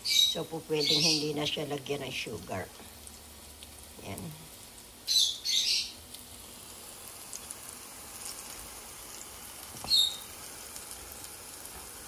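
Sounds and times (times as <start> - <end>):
plantain sizzling in oil: 0.0 - 12.0.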